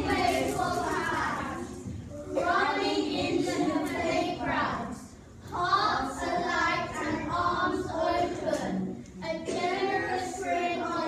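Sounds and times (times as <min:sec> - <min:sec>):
children chanting in unison: 0:00.0 - 0:11.0.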